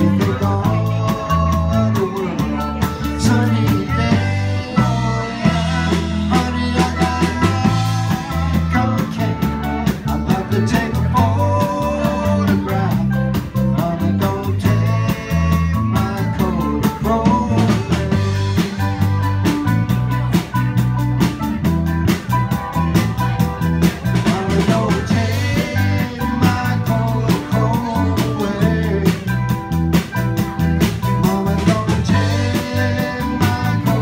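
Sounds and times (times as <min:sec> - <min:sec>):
person singing: 0:00.0 - 0:20.5, 0:22.7 - 0:34.0
bass notes: 0:00.0 - 0:34.0
drum-kit beat: 0:00.0 - 0:34.0
electric guitar: 0:00.0 - 0:34.0
keyboard: 0:00.0 - 0:34.0.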